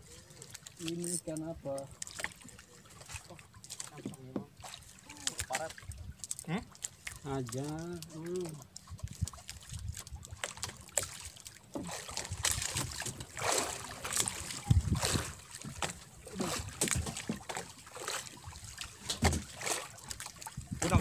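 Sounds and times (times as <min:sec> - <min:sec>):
water splashing against boat hull: 0:00.0 - 0:21.0
knocks and clunks on boat: 0:01.3 - 0:06.7, 0:08.8 - 0:21.0.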